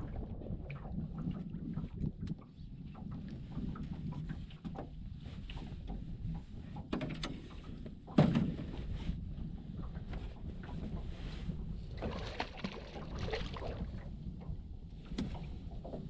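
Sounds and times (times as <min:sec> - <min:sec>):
waves lapping against boat hull: 0:00.0 - 0:16.0.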